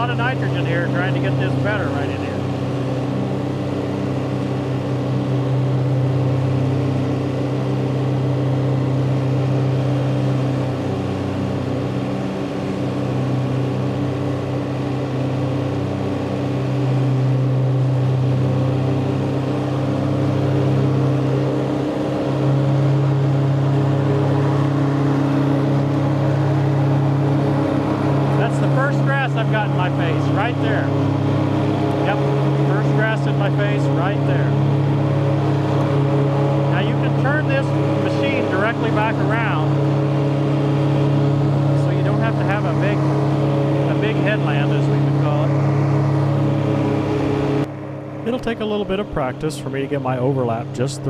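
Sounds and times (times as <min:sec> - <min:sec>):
tractor and rotary mower running: 0:00.0 - 0:51.0.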